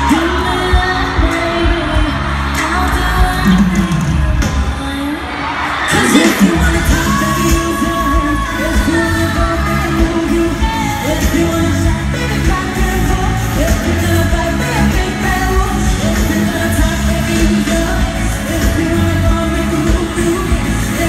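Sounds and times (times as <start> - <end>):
live band with pulsing bass: 0.0 - 21.0
women singing pop song: 0.0 - 21.0.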